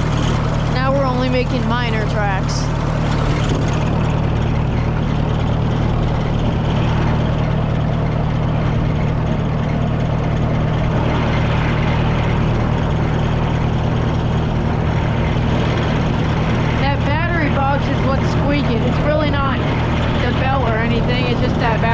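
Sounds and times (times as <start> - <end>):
garden tractor engine running: 0.0 - 21.9.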